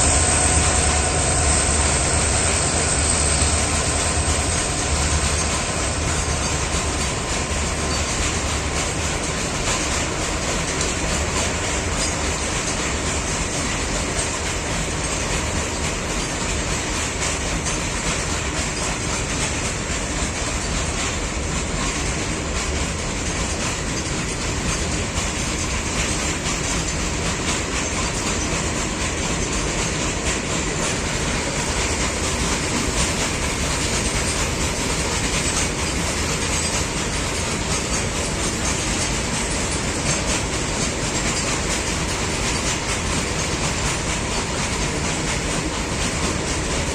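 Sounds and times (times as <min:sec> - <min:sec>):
train rumbling past: 0:00.0 - 0:46.9
wheels clicking over rail joints: 0:00.0 - 0:46.9.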